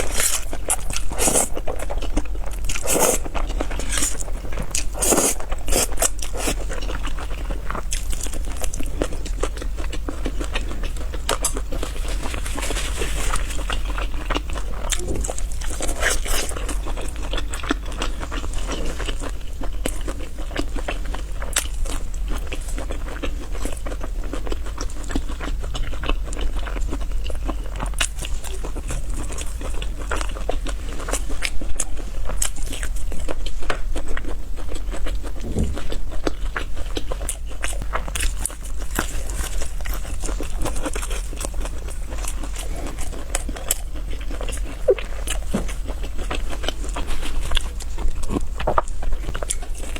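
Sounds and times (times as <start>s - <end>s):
person chewing noodles: 0.0s - 49.9s.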